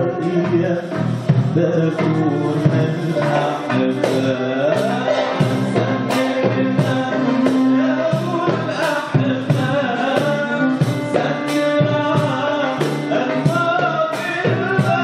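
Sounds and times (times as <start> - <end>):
darbuka beat: 0.0 - 15.0
man singing: 0.0 - 15.0
violin: 0.0 - 15.0.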